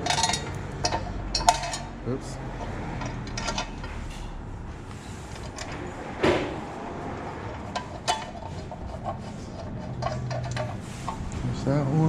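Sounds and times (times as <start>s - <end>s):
metal clunk: 0.0s - 4.4s, 5.3s - 6.8s, 7.4s - 11.6s.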